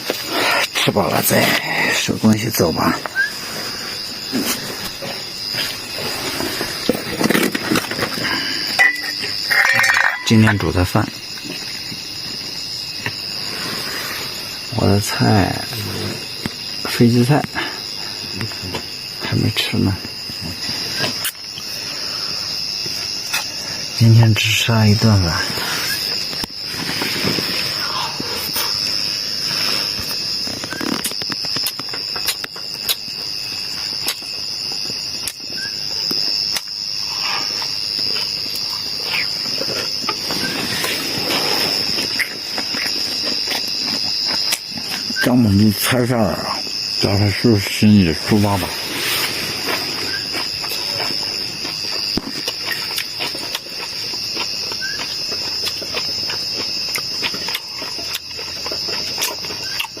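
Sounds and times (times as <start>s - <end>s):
insects chorus: 0.0s - 60.0s.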